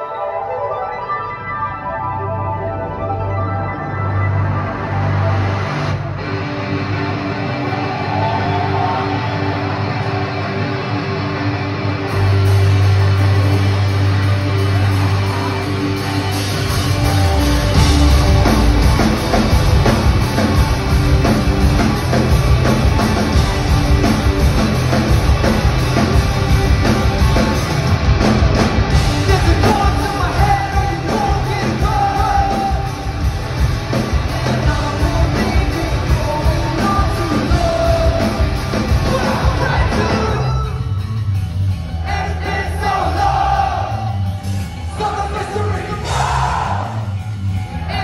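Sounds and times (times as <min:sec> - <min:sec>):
punk band playing live: 0:02.7 - 0:48.0.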